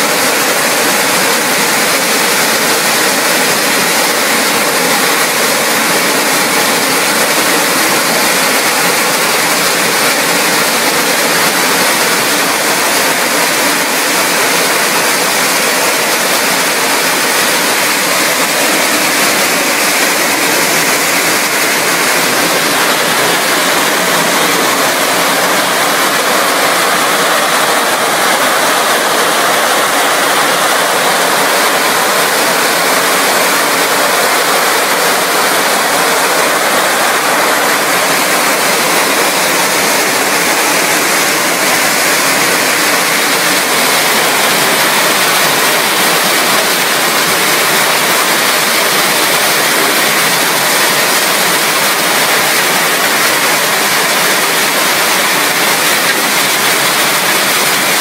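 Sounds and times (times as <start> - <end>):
high-pressure water jets spraying: 0.0 - 58.0.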